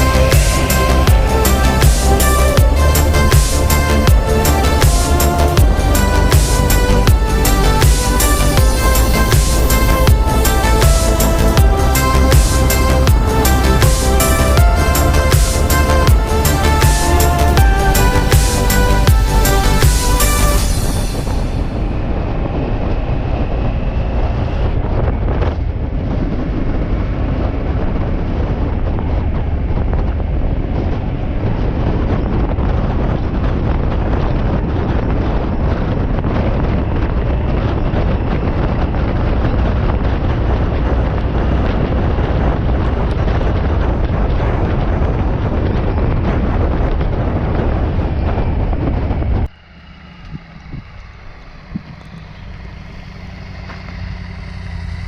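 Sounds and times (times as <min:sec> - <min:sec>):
motorcycle engine: 0:00.0 - 0:55.0
wind buffeting microphone: 0:00.0 - 0:55.0.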